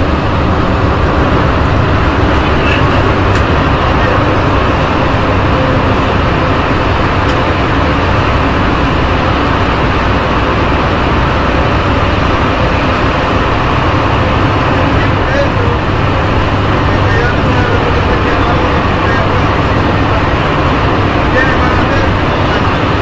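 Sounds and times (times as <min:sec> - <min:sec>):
metro train rumbling through tunnel: 0:00.0 - 0:23.0.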